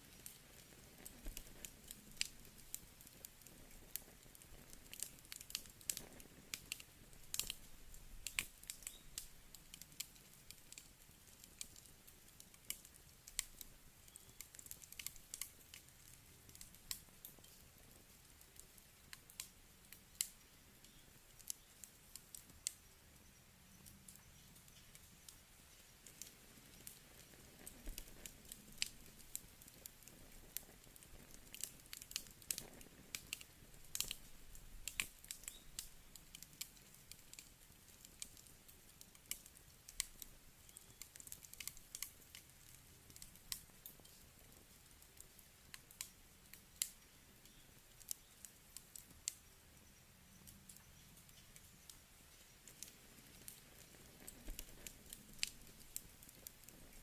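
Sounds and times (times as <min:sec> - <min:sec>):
campfire crackling and popping: 0:00.0 - 0:57.0
faint hiss: 0:00.0 - 0:57.0.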